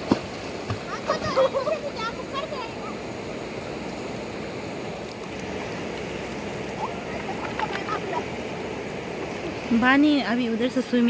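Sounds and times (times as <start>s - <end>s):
river water over stones: 0.0s - 11.0s.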